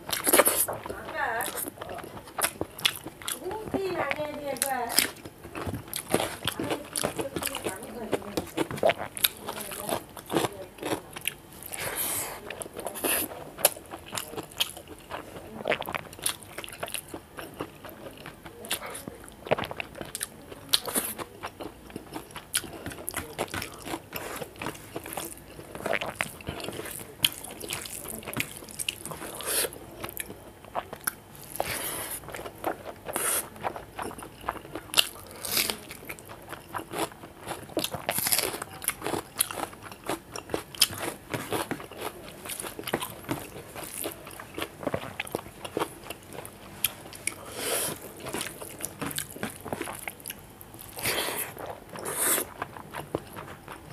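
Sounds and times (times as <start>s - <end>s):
man chewing food: 0.0s - 53.9s.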